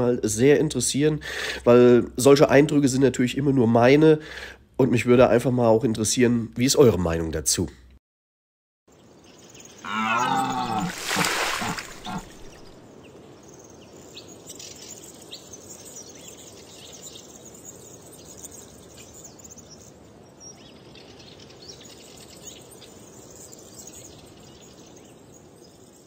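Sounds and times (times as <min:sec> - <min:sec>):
background hiss: 0:00.0 - 0:07.9, 0:08.9 - 0:26.0.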